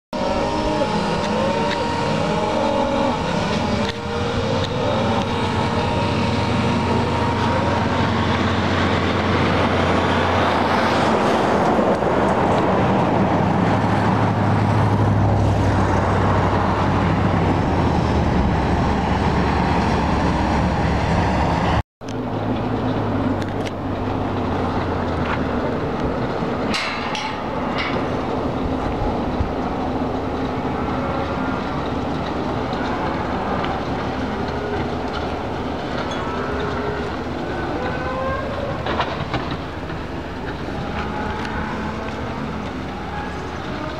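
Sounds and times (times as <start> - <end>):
cattle herd rumbling: 0.2 - 21.8, 22.4 - 43.9.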